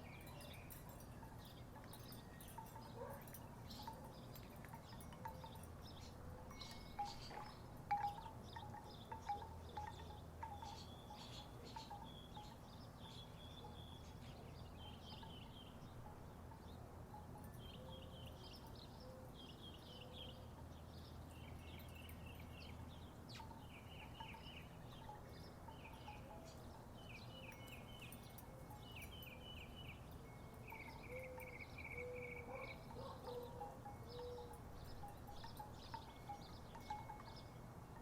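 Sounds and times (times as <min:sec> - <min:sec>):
songbird chirping: 0:00.0 - 0:38.0
wooden wind chimes: 0:00.0 - 0:38.0.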